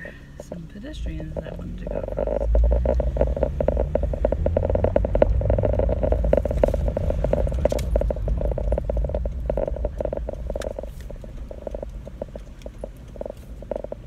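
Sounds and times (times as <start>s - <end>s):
car road and engine noise: 0.0s - 14.0s
small clicks and crackles: 0.4s - 14.0s.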